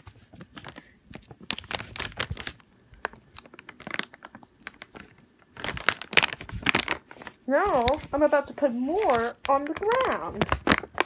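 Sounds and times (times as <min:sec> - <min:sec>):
bag crinkling and rustling: 0:00.0 - 0:11.0.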